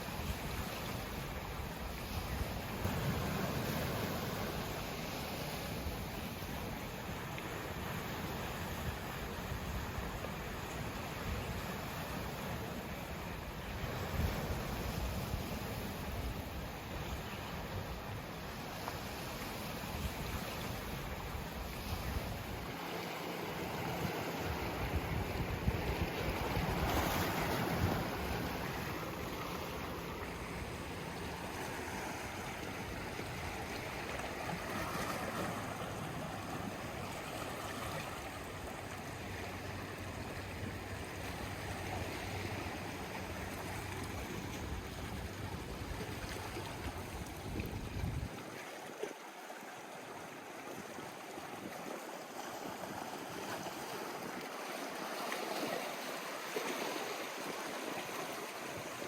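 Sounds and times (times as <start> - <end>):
waves washing against rocky shore: 0.0 - 59.0.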